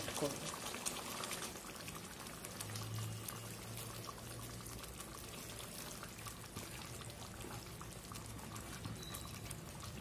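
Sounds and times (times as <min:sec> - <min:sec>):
curry bubbling in a pan: 0:00.0 - 0:10.0.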